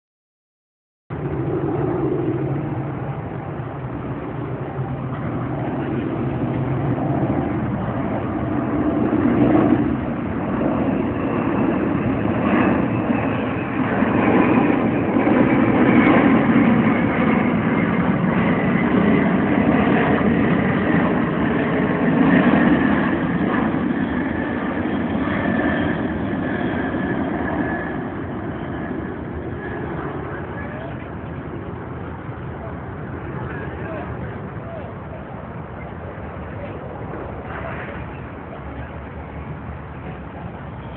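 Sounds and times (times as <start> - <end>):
jet engines roaring overhead: 1.1 - 40.9.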